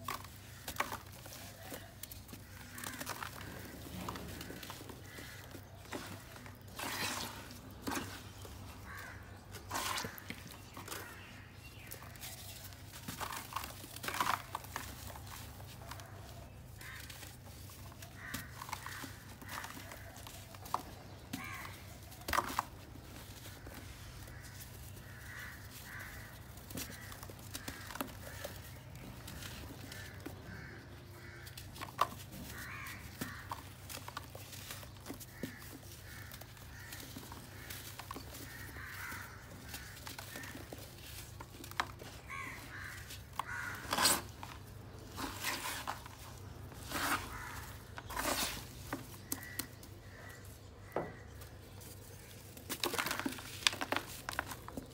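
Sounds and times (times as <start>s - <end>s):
crows cawing: 0.0s - 54.9s
mud squelching underfoot: 0.0s - 54.9s.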